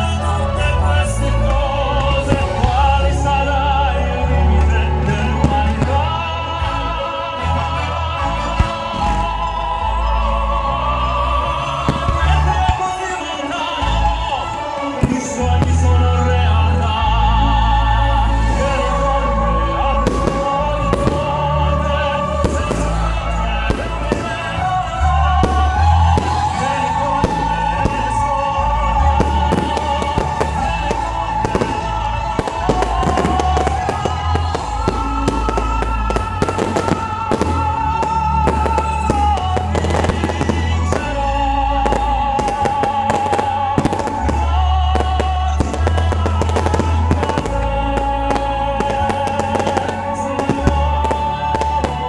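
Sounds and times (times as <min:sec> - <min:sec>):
fireworks bangs and crackles: 0:00.0 - 0:03.8, 0:04.4 - 0:10.2, 0:11.4 - 0:17.1, 0:18.3 - 0:52.0
loud music with heavy bass: 0:00.0 - 0:52.0.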